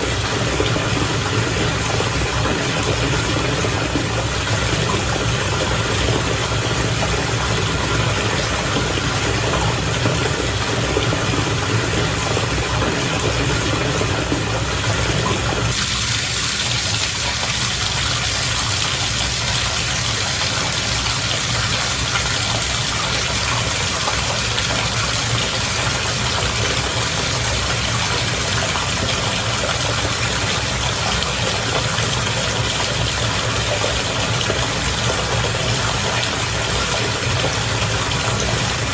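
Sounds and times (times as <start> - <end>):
bath water bubbling: 0.0 - 38.9.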